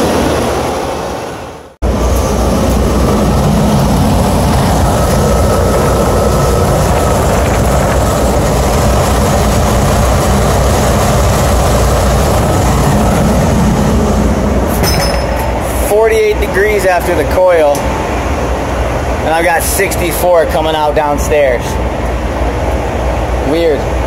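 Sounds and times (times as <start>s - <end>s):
rooftop unit hum and air rush: 0.0s - 24.0s.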